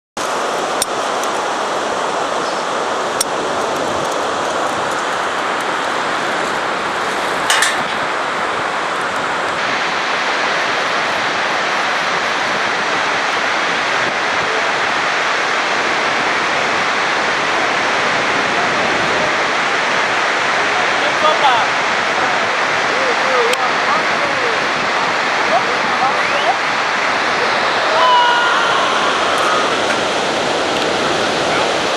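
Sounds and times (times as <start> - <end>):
river water rushing: 0.2 - 31.9.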